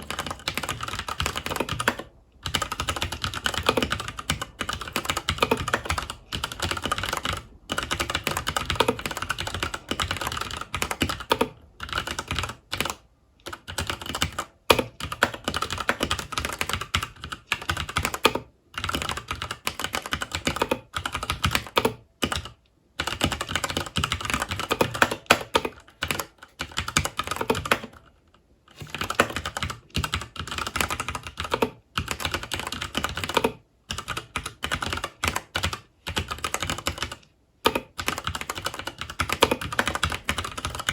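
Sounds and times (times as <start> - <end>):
mechanical keyboard typing: 0.0 - 28.1, 28.7 - 40.9.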